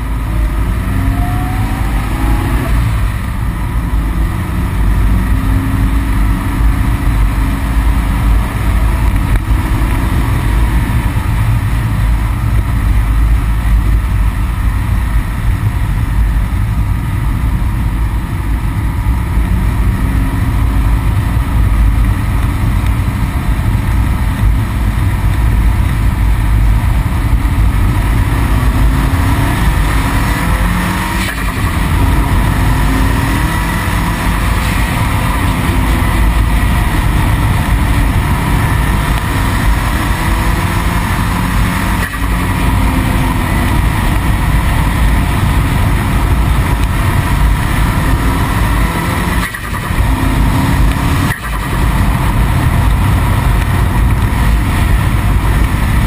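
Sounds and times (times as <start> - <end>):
car engine accelerating: 0.0 - 56.0
wind rumble over microphone: 0.0 - 56.0.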